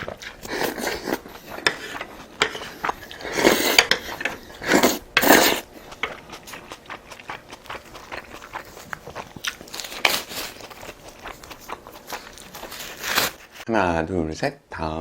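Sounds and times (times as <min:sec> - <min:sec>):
chewing and mouth noises: 0:00.0 - 0:13.6.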